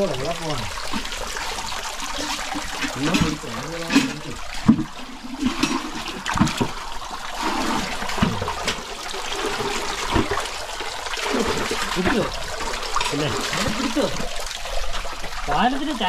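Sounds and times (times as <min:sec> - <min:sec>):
moving water wash: 0:00.0 - 0:16.0
water splashing: 0:00.0 - 0:16.0.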